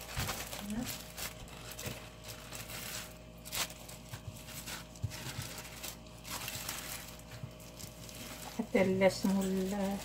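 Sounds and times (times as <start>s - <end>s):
plastic film rustling: 0.0s - 10.0s.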